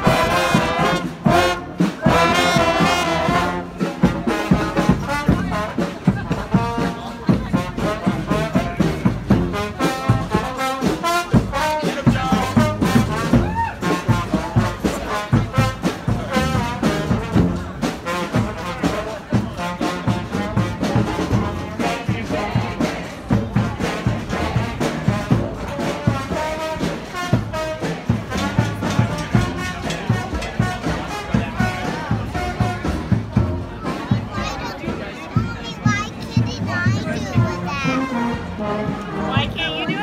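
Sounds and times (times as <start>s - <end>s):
brass band playing: 0.0s - 40.0s
drum beat: 0.0s - 40.0s.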